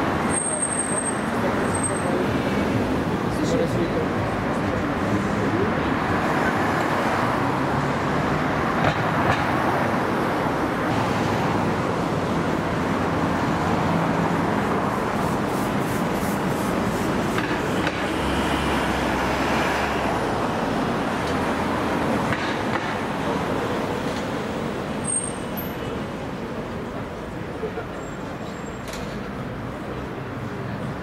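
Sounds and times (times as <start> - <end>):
traffic road noise: 0.0 - 31.0.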